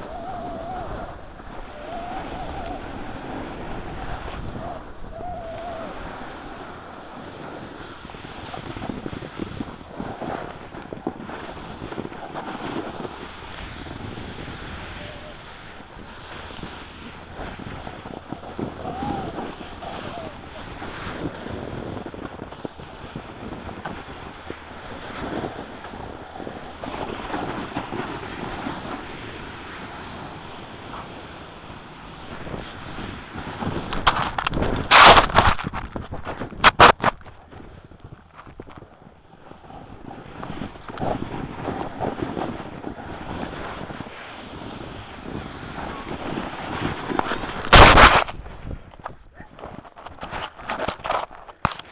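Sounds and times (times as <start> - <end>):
skis scraping over snow: 0.0 - 51.9
wind buffeting microphone: 0.0 - 51.9.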